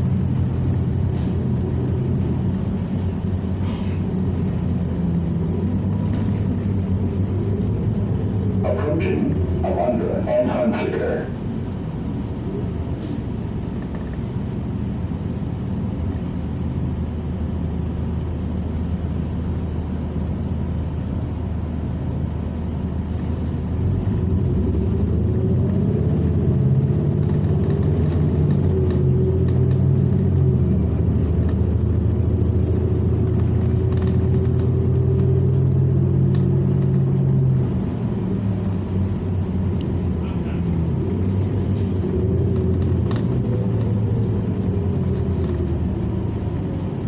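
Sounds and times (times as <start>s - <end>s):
bus engine drone: 0.0s - 47.0s.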